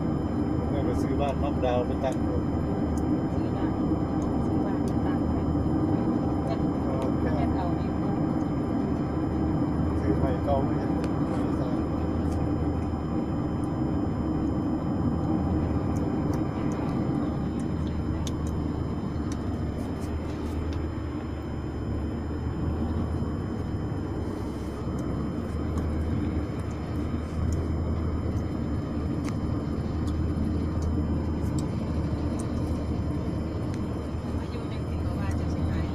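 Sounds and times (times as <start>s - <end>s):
vehicle engine and road rumble: 0.0s - 35.9s.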